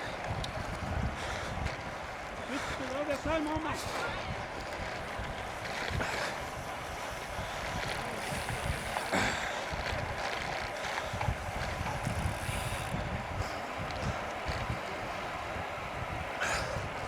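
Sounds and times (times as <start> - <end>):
bicycles rolling on road: 0.0 - 17.0
wind buffeting microphone: 0.0 - 17.0.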